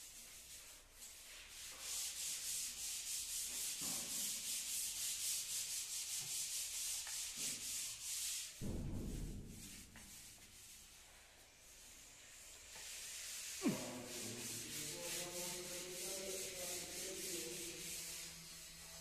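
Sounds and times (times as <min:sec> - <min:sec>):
paint roller rasping on wall: 0:00.0 - 0:19.0.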